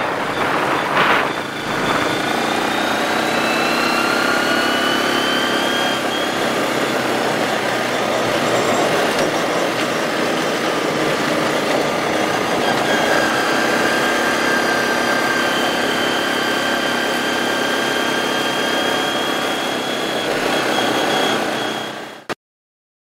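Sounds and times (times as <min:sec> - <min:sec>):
dense noisy rush: 0:00.0 - 0:22.3
atv engine running: 0:00.0 - 0:22.4
steady high whine: 0:00.0 - 0:22.4.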